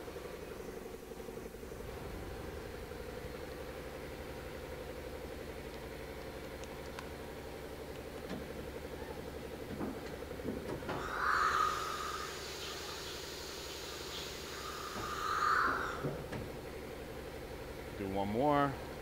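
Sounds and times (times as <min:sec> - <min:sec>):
machining center humming: 0:00.0 - 0:19.0.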